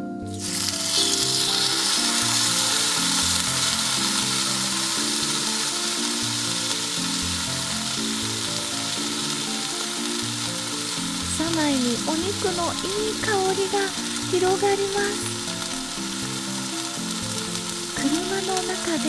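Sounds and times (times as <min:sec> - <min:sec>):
meat sizzling on a griddle: 0:00.3 - 0:19.0.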